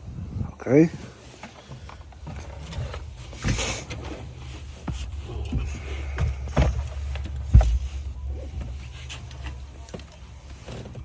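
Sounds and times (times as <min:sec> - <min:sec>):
steady low hum: 0:00.0 - 0:11.0
tools and car parts clunking: 0:01.3 - 0:11.0.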